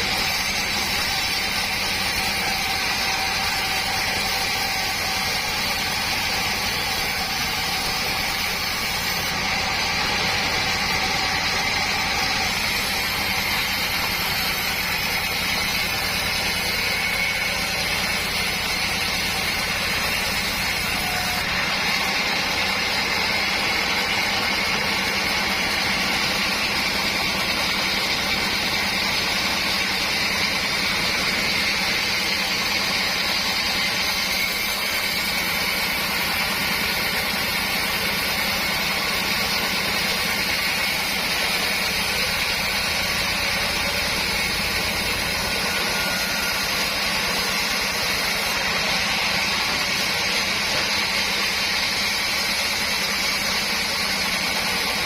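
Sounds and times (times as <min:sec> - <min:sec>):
sawmill saw running: 0:00.0 - 0:55.0.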